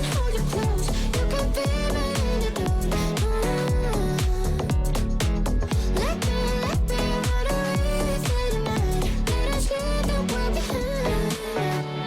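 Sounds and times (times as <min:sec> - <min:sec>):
pop music: 0:00.0 - 0:12.0.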